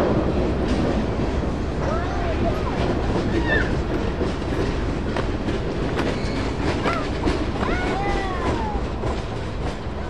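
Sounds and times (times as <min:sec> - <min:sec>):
freight train rumbling: 0:00.0 - 0:10.0
train wheels clacking: 0:00.0 - 0:10.0.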